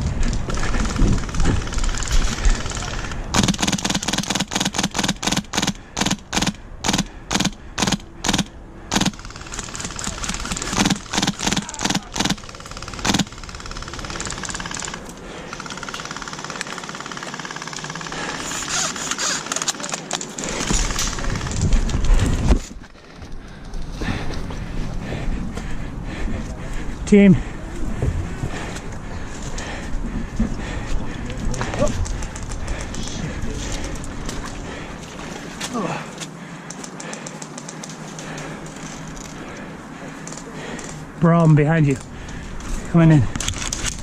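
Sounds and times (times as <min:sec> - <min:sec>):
steady noise: 0:00.0 - 0:43.4
running footsteps: 0:00.0 - 0:44.0.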